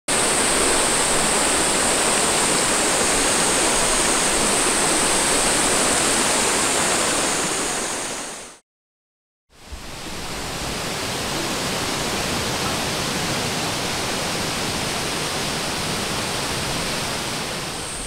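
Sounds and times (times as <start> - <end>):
stream water rushing: 0.1 - 8.6, 9.6 - 18.0.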